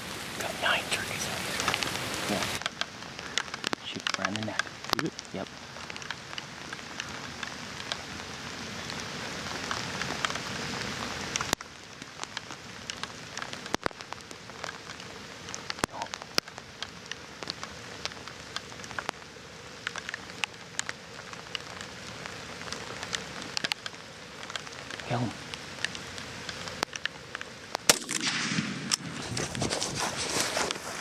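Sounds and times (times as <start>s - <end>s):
raindrop ticks: 0.0s - 29.6s
rain hiss: 0.0s - 31.0s.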